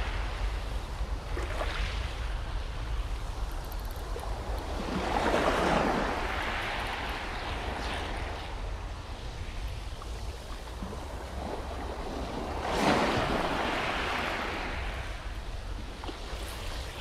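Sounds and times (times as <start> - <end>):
sea waves breaking: 0.0 - 17.0
wind rumble on microphone: 0.0 - 17.0.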